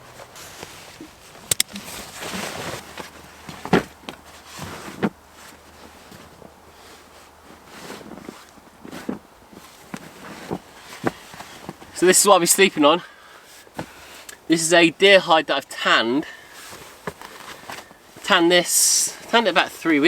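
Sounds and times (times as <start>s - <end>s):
rustling and handling noises: 0.0s - 14.5s, 16.3s - 20.0s.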